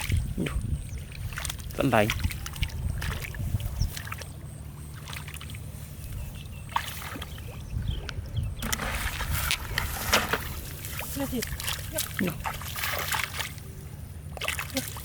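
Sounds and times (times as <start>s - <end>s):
steady low rumble: 0.0s - 15.0s
water sloshing and splashing: 0.0s - 15.0s.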